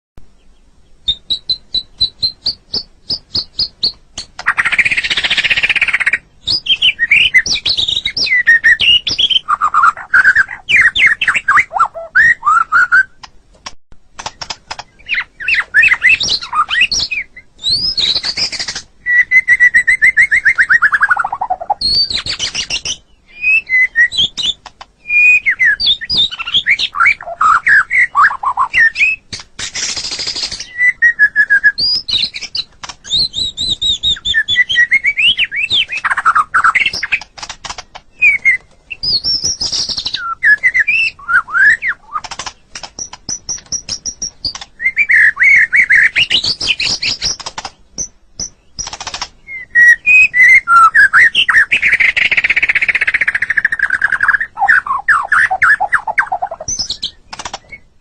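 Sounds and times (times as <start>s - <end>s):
bird singing varied song: 0.2s - 13.4s, 14.2s - 58.0s.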